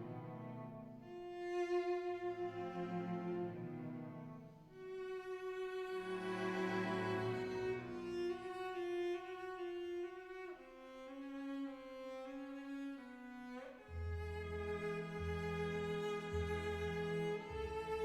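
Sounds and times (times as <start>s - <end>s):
violin and cello slow notes: 0.0s - 18.0s.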